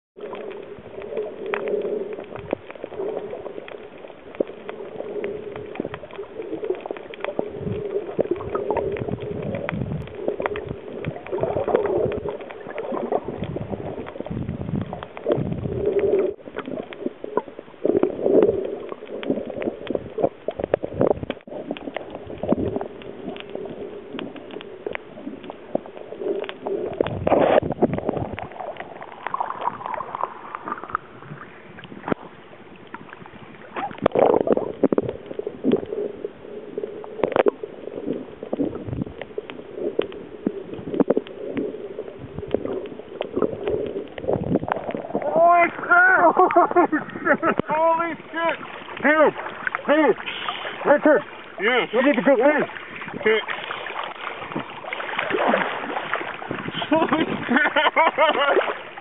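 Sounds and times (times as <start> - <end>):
water sloshing and gurgling: 0.2 - 59.0.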